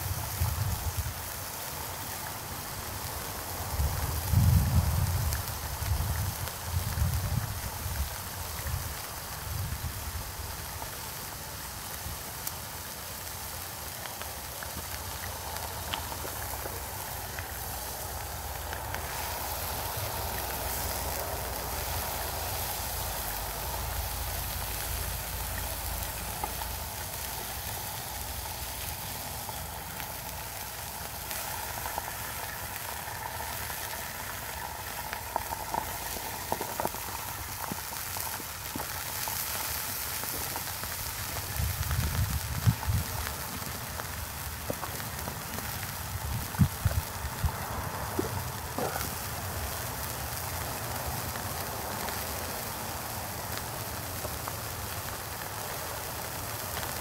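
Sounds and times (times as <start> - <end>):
burger sizzling in a frying pan: 0.0 - 57.0
grease crackling and popping: 0.0 - 57.0.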